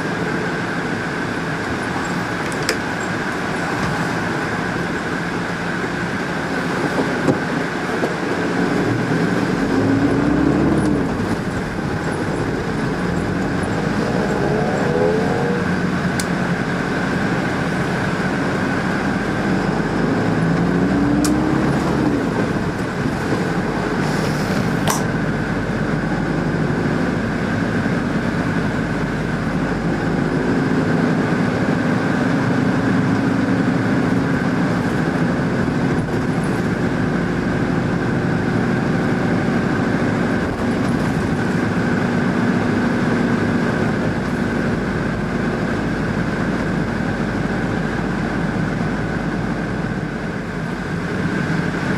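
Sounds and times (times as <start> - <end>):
vehicle engine rumble: 0.0 - 51.9.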